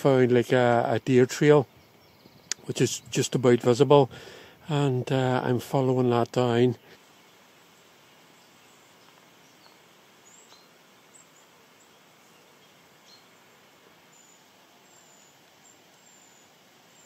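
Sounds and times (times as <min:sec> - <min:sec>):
small birds chirping: 0:00.0 - 0:17.0
steady low hiss: 0:00.0 - 0:17.0.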